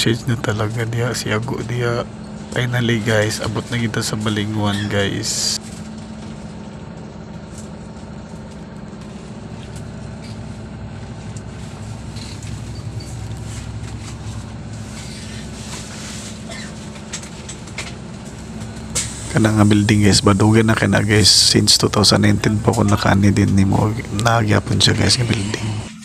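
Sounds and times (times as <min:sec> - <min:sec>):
bus engine humming: 0:00.0 - 0:26.0.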